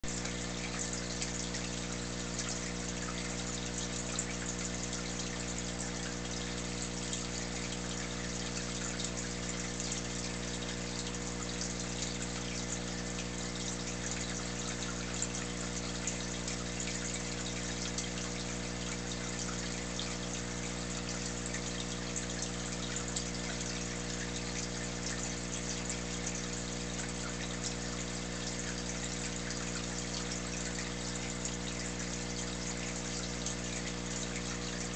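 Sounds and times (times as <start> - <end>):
aquarium pump humming: 0.0 - 34.9
water bubbling and trickling: 0.0 - 34.9.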